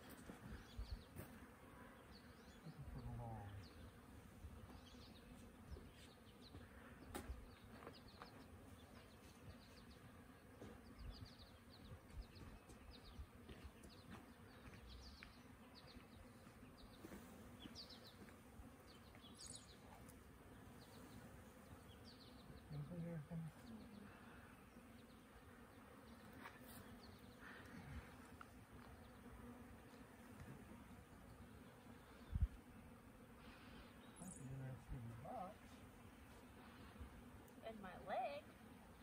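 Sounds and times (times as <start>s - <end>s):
bees buzzing: 0.2s - 39.0s.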